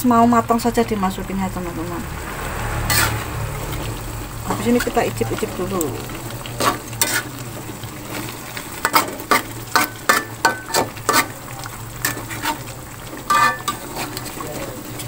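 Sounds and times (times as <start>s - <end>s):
sauce simmering: 0.0s - 15.0s
metal spatula scraping wok: 1.8s - 15.0s.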